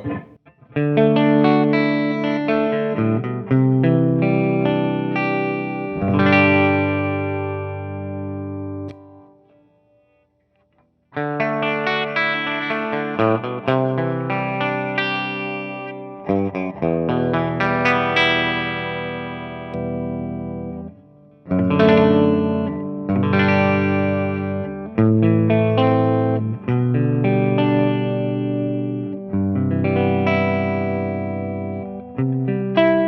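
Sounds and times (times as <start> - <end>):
clean electric guitar with reverb: 0.0 - 33.0.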